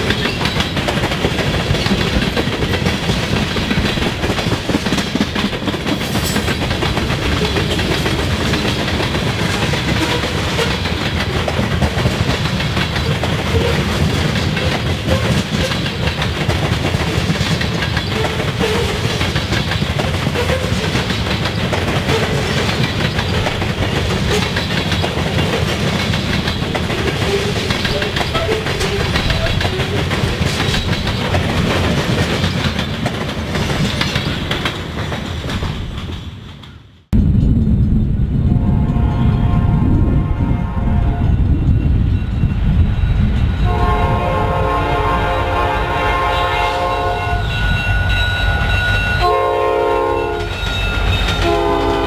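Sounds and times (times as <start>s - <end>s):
steel wheels clicking on rails: 0.0s - 36.9s, 41.3s - 52.0s
freight train rumbling by: 0.0s - 52.0s.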